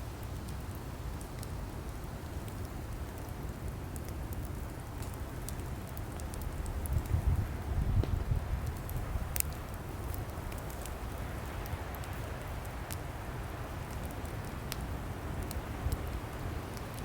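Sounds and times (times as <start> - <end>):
wood logs crackling: 0.6 - 17.0.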